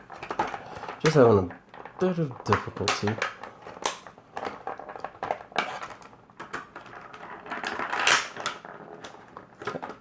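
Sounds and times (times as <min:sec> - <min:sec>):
plastic packaging tray clicks and rustling: 0:00.0 - 0:10.0.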